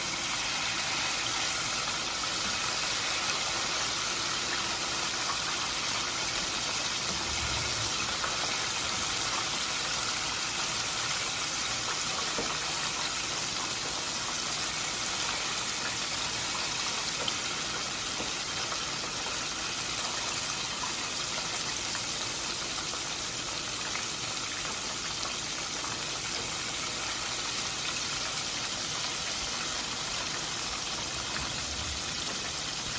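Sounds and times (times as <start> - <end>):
poultry sizzling in hot oil: 0.0 - 32.9.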